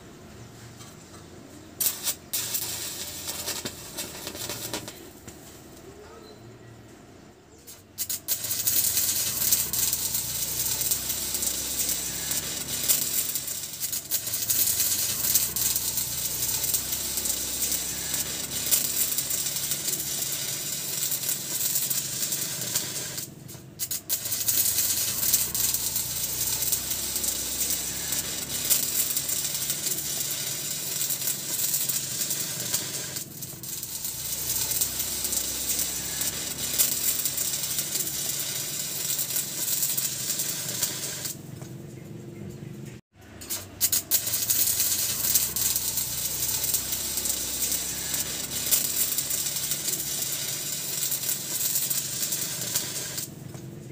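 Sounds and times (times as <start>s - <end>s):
welding arc crackling: 0.8s - 5.9s, 7.6s - 41.8s, 42.9s - 53.9s.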